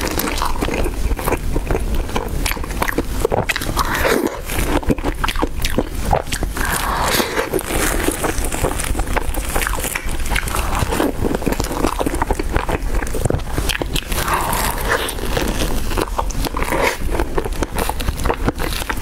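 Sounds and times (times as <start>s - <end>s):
close-miked chewing: 0.0s - 19.0s.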